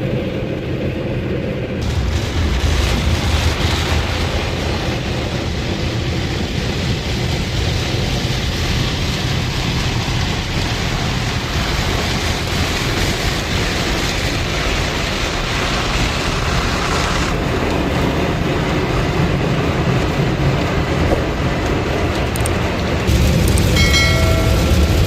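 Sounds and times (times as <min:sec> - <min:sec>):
low rumble: 0:00.0 - 0:16.7, 0:17.4 - 0:25.0
water spraying onto car: 0:01.8 - 0:25.0.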